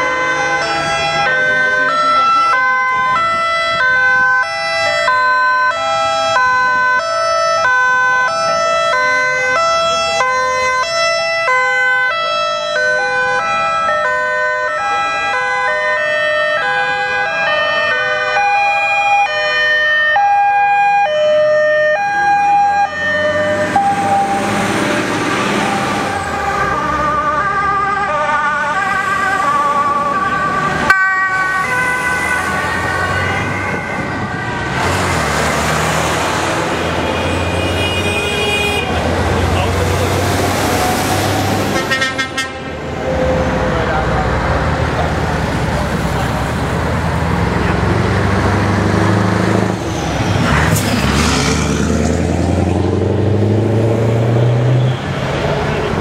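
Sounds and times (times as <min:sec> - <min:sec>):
fire engine passing by: 0:00.0 - 0:56.0
two-tone fire engine sirens: 0:00.0 - 0:56.0.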